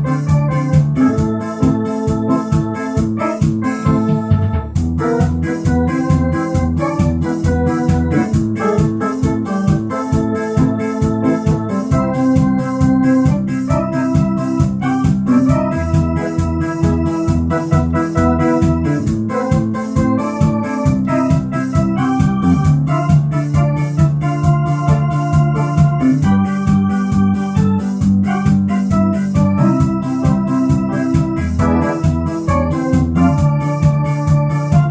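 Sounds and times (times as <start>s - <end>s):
electronic organ disco music: 0.0s - 34.9s.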